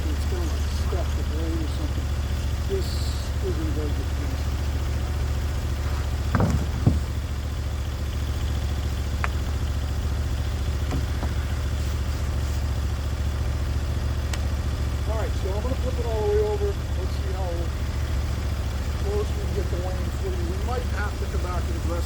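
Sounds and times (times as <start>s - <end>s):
sawmill engine humming: 0.0s - 22.0s.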